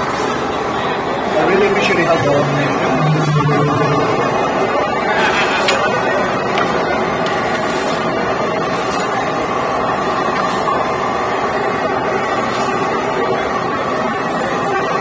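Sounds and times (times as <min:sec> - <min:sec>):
busy hall din: 0:00.0 - 0:15.0.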